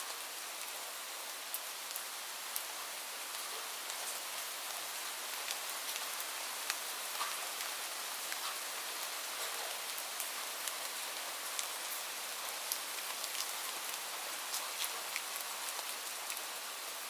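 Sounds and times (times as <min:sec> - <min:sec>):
light rain hissing: 0:00.0 - 0:17.0
raindrops ticking close by: 0:00.1 - 0:17.0.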